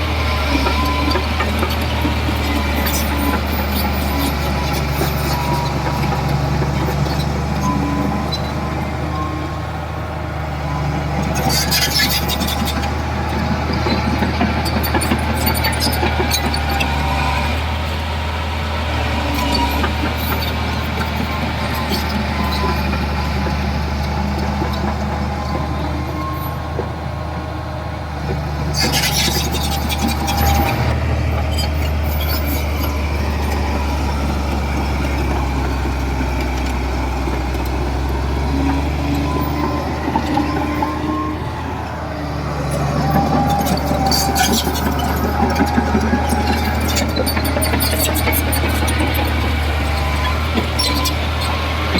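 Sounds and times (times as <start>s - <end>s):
diesel machinery engine hum: 0.0s - 51.9s.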